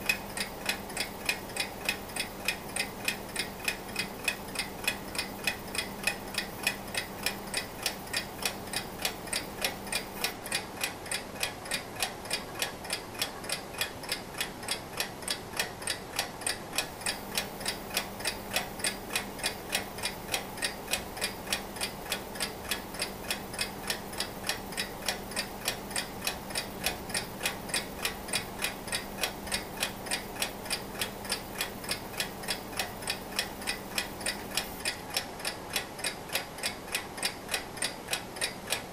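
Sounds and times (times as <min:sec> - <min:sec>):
alarm clock ticking: 0:00.0 - 0:38.9.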